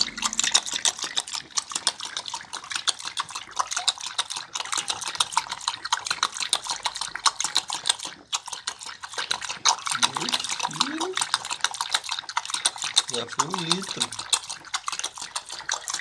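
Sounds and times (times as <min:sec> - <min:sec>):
dog lapping water: 0:00.0 - 0:16.0.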